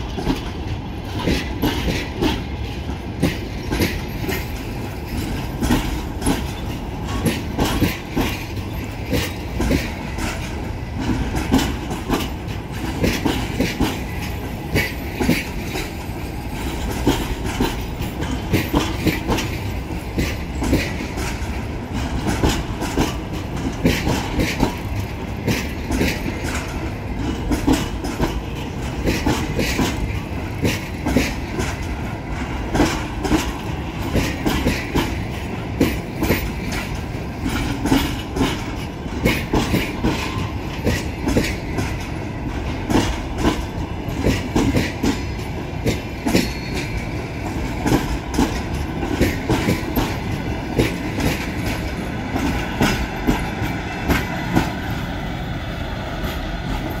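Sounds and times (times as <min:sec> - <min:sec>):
train rumble: 0:00.0 - 0:57.0
train wheels clicking over rail joints: 0:00.0 - 0:57.0.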